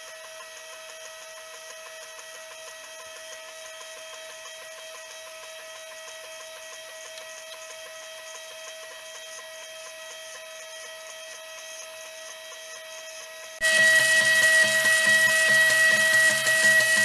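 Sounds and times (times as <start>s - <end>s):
printer stepper motors whining: 0.0s - 17.0s.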